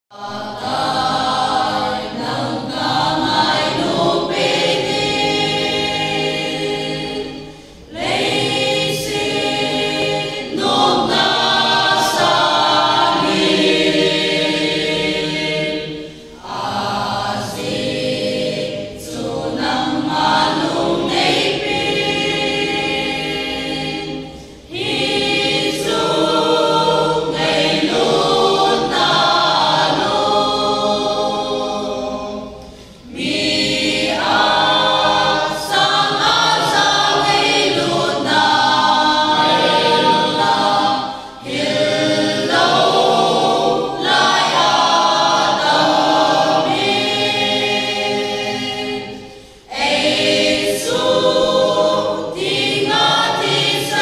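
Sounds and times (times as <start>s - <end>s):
choir singing a hymn unaccompanied: 0.1s - 54.0s.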